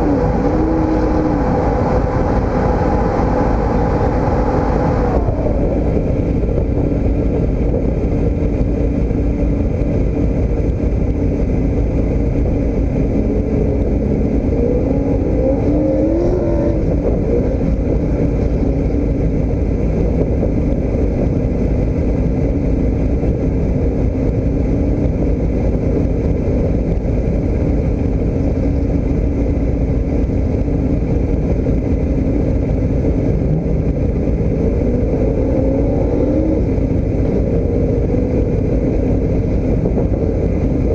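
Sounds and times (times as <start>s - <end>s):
road noise: 0.0s - 40.9s
vehicle engine: 0.0s - 40.9s.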